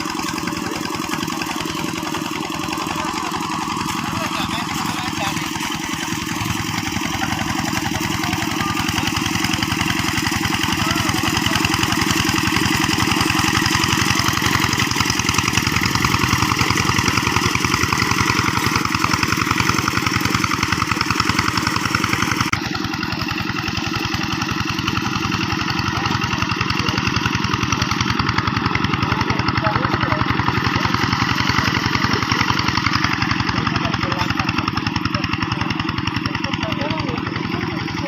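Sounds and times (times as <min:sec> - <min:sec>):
diesel hand tractor engine running: 0:00.0 - 0:38.0.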